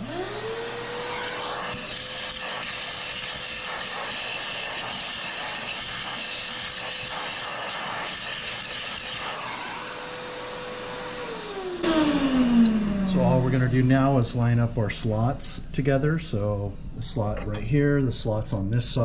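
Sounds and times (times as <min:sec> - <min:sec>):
vacuum cleaner running: 0:00.0 - 0:17.4.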